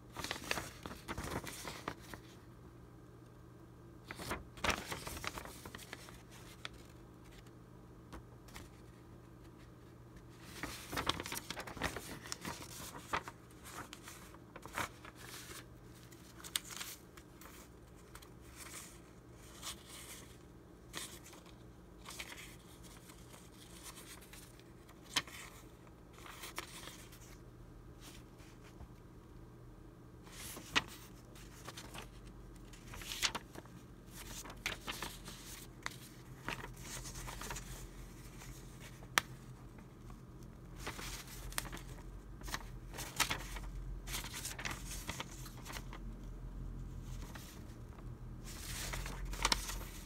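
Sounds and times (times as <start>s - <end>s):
old paper rustling and crinkling: 0.0s - 2.5s, 4.0s - 7.6s, 8.2s - 27.4s, 30.3s - 50.0s.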